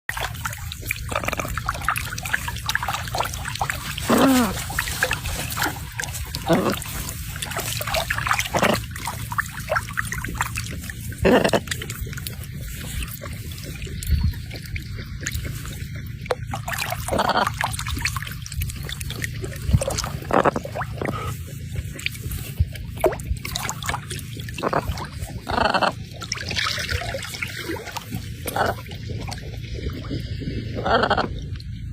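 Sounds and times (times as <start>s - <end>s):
water trickling and splashing: 0.0s - 31.9s.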